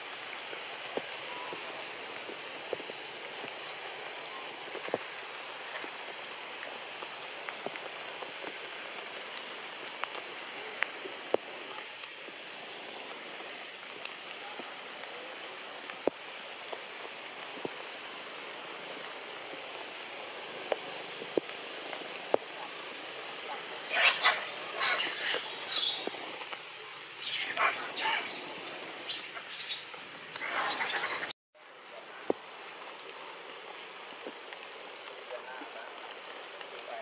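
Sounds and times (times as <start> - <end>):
rain on foliage: 0.0 - 37.0.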